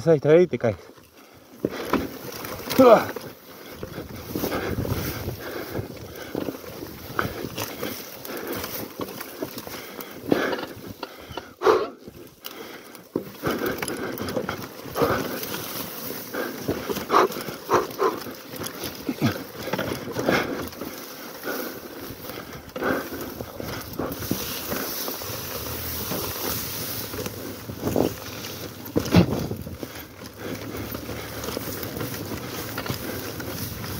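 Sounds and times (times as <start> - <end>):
grass brushing against bike: 0.0 - 33.9
dirt bike knocking over rocks: 1.6 - 12.4, 13.0 - 33.9.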